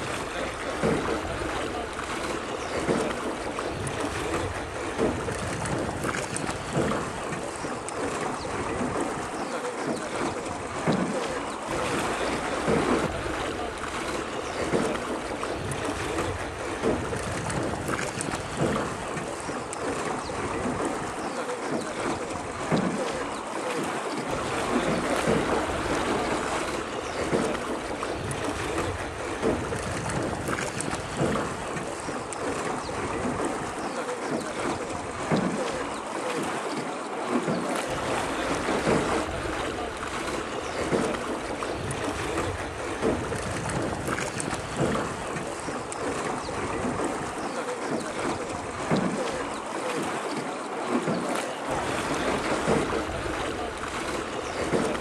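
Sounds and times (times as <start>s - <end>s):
oar strokes splashing: 0.0s - 55.0s
water noise: 0.0s - 55.0s
wind: 0.0s - 55.0s.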